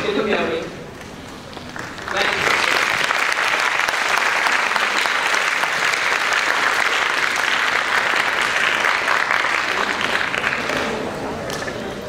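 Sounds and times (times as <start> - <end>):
audience applauding: 1.5 - 11.9.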